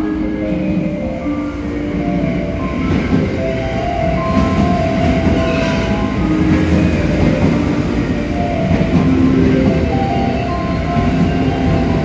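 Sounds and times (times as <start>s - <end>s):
electric train rolling past: 0.0s - 12.0s.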